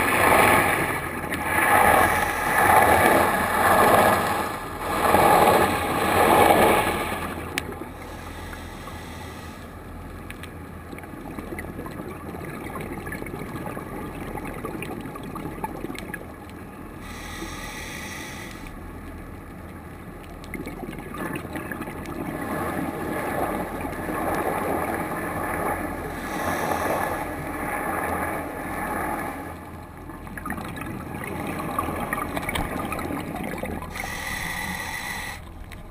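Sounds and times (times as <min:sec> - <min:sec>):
low underwater noise: 0:00.0 - 0:35.9
scuba exhaust bubbles: 0:00.0 - 0:35.9.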